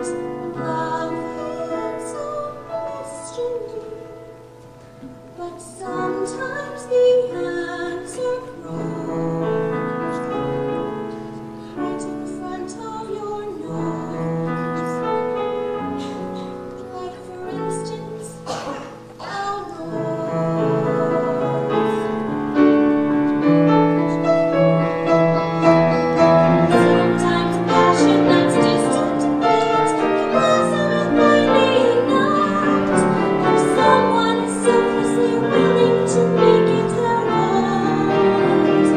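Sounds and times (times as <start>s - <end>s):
woman singing: 0.0s - 4.3s, 5.4s - 10.9s, 11.7s - 22.4s, 25.7s - 38.9s
piano: 0.0s - 38.9s.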